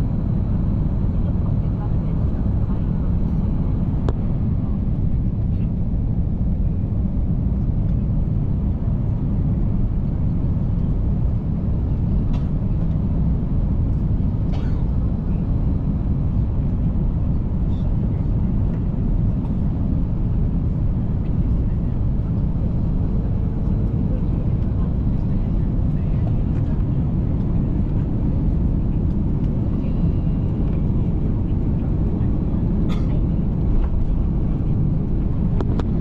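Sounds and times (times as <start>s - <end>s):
airliner cabin roar: 0.0s - 36.0s.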